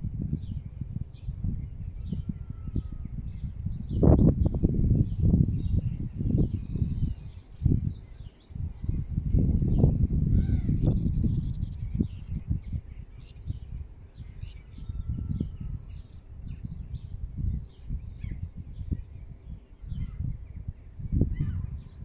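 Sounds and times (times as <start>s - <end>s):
low gusty rumbling: 0.0s - 22.0s
songbirds chirping: 0.4s - 22.0s.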